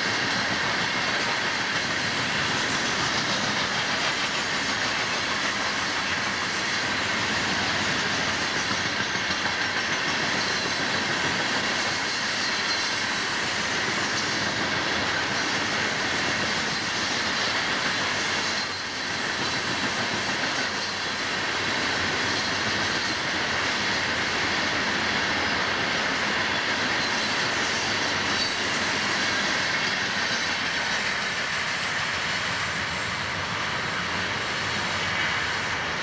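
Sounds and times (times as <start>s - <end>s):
freight train rolling past: 0.0s - 36.0s
steel wheels on rails: 0.0s - 36.0s.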